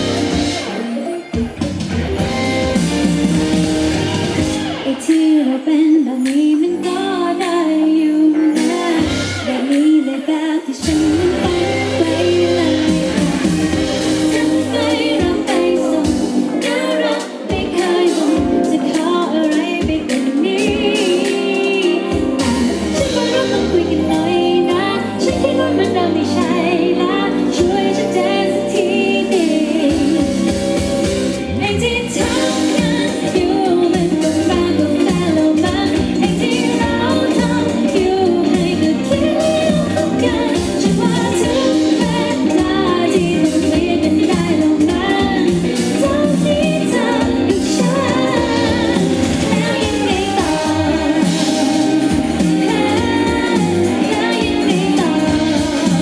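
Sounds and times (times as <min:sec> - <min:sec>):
band with keyboards and guitar: 0:00.0 - 0:56.0
woman singing through microphone: 0:04.6 - 0:56.0.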